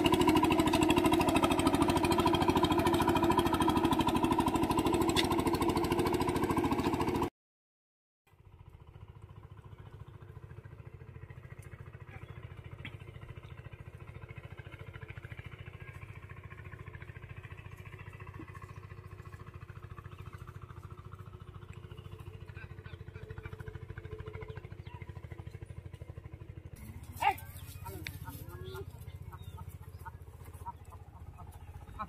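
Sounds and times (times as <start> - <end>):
small engine running: 0.0 - 7.3, 8.3 - 32.0.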